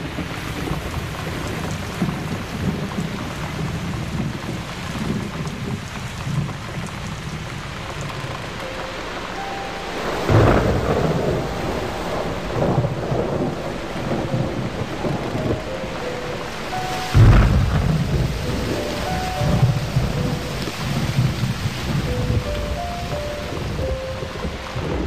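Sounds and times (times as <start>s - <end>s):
steady rain: 0.0s - 25.0s
thunder rumbling: 0.0s - 25.0s.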